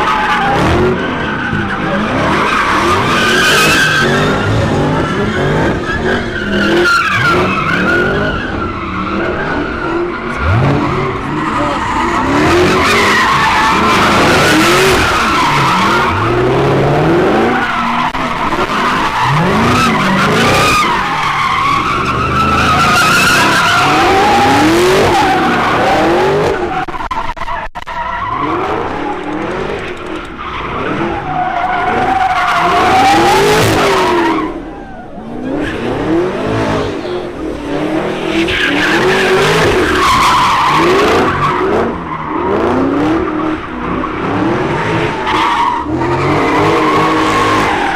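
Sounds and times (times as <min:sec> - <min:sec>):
car engines revving: 0:00.0 - 0:47.9
car tyres squealing: 0:00.0 - 0:47.9.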